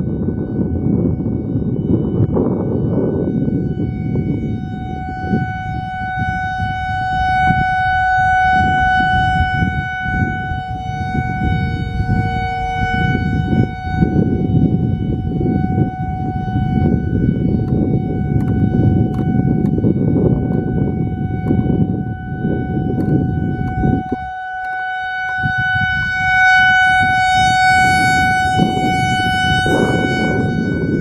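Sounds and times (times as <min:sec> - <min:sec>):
electronic warning siren steady tone: 0:00.0 - 0:31.0
wind buffeting microphone: 0:00.0 - 0:31.0.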